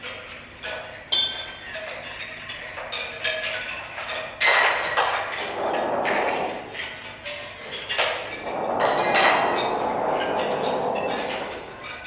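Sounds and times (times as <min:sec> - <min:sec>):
percussion knocks and clinks: 0:00.0 - 0:12.0.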